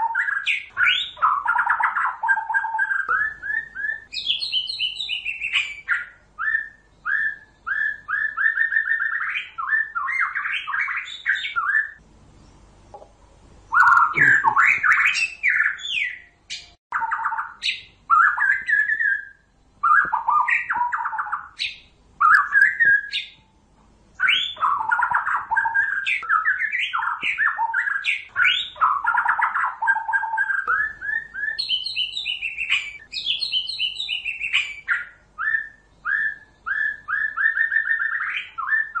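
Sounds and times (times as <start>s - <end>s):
songbird whistling song: 0.0s - 12.6s, 13.7s - 39.0s.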